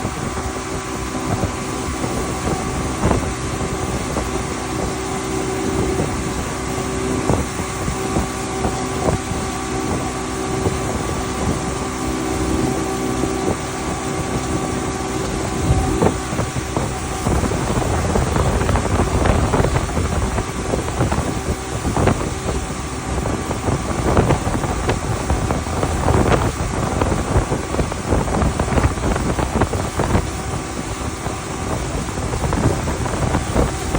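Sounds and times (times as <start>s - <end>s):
motorboat engine running: 0.0s - 33.9s
water rushing past: 0.0s - 33.9s
wind buffeting microphone: 0.0s - 33.9s.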